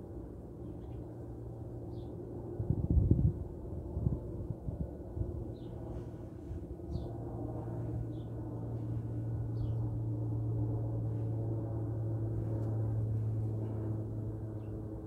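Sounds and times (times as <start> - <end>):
low hum with overtones: 0.0 - 15.0.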